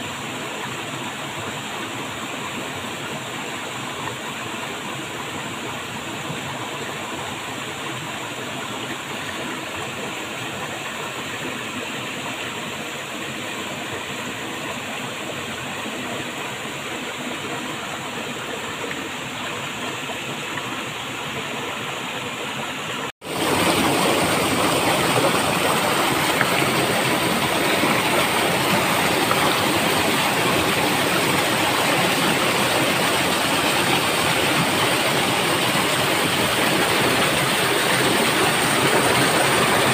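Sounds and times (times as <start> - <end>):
water rushing: 0.0 - 39.9
waterfall: 0.0 - 39.9.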